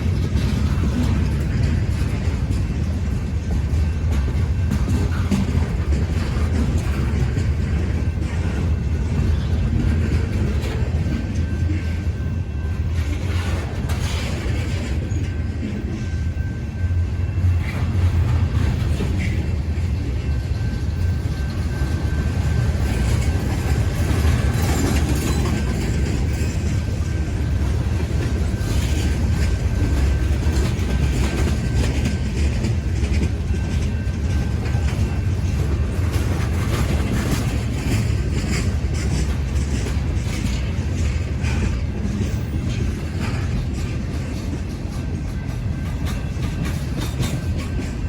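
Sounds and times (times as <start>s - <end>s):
freight train rumbling past: 0.0s - 48.0s
wheels clacking over rail joints: 0.0s - 48.0s.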